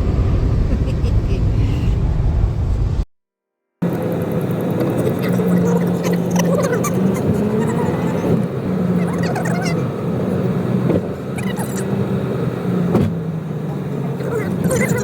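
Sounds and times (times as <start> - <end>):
car engine and road noise: 0.0 - 3.1, 3.8 - 15.0.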